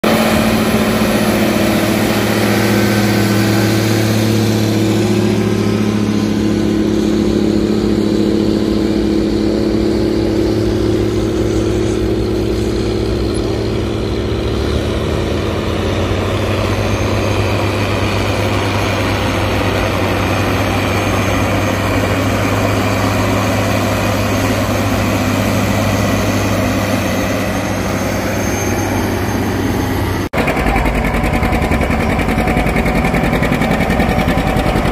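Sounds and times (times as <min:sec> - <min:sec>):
tractor diesel engines droning: 0:00.0 - 0:34.9.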